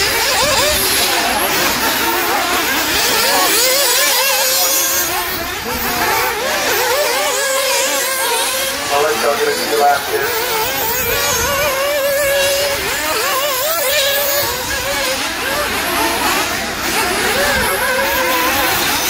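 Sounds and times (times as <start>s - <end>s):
rc car engines buzzing: 0.0s - 19.0s.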